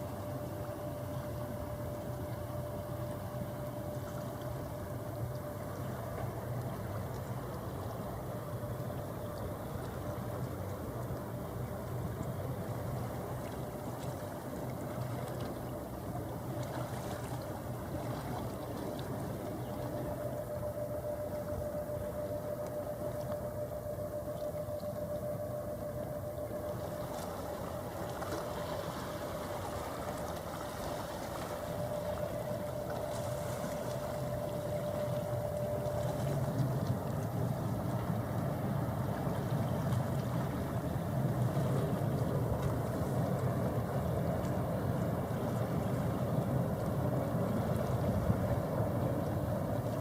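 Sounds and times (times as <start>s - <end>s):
faint steady tone: 0.0s - 50.0s
ship engines rumbling: 0.0s - 50.0s.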